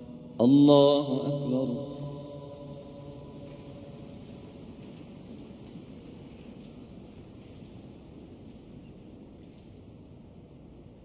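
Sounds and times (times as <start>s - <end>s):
low rumble and hiss of room tone: 0.0s - 11.0s.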